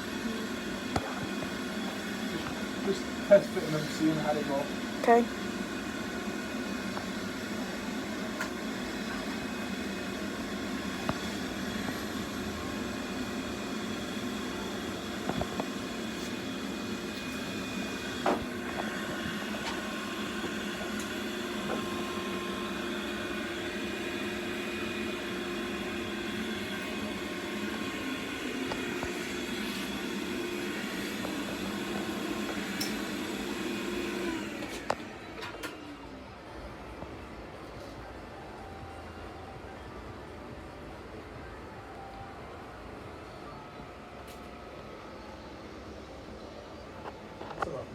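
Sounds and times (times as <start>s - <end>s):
mechanical hum: 0.0s - 47.9s.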